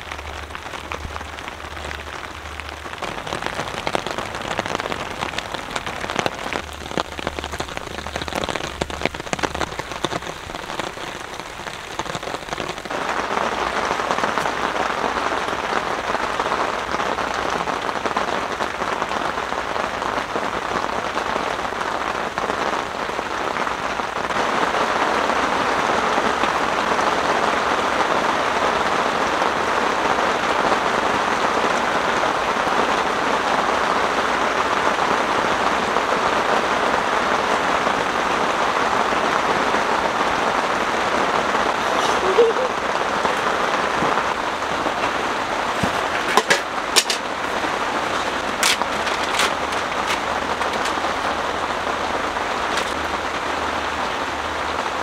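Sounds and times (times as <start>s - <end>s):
rain pattering on a tent: 0.0s - 55.0s.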